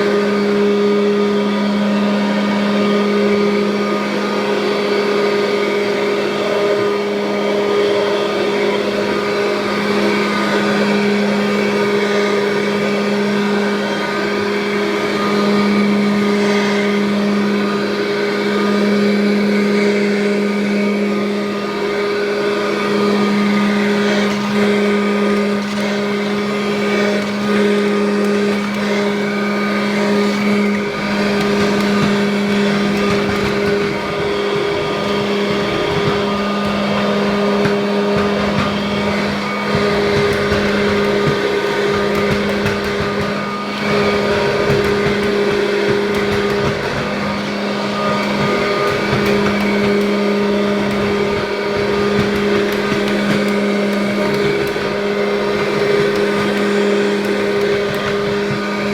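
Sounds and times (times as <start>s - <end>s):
upright vacuum cleaner running: 0.0s - 58.9s.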